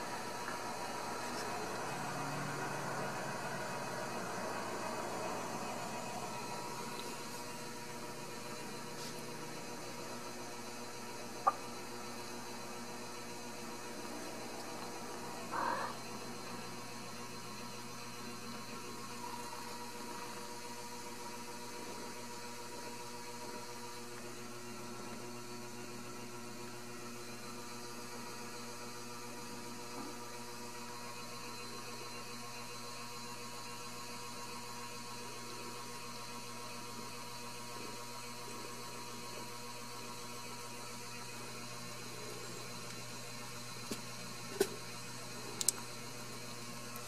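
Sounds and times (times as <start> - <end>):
electrical hum with whir: 0.0 - 47.0.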